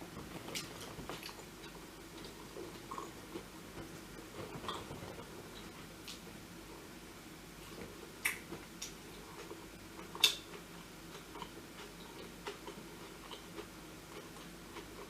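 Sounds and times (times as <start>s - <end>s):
faint chewing: 0.1s - 6.2s, 7.6s - 15.0s.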